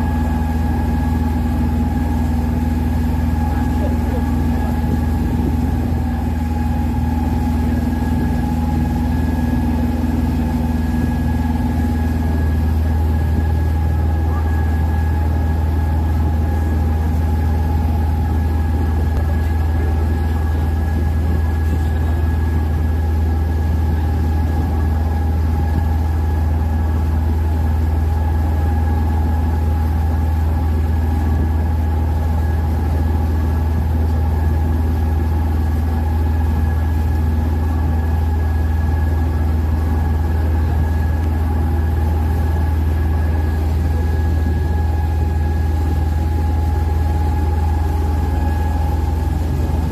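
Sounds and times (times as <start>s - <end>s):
boat engine drone: 0.0s - 49.9s
faint steady whine: 0.0s - 49.9s.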